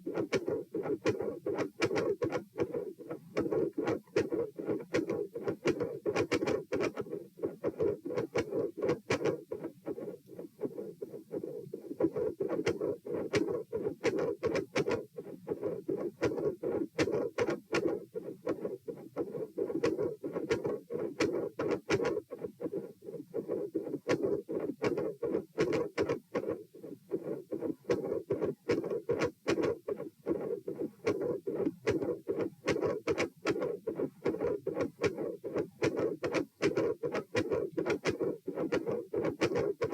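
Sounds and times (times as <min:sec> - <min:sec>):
heartbeat through a stethoscope: 0:00.0 - 0:39.9.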